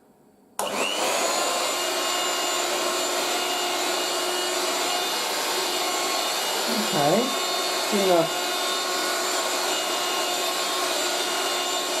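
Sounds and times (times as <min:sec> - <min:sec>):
handheld vacuum cleaner motor whine: 0:00.6 - 0:12.0.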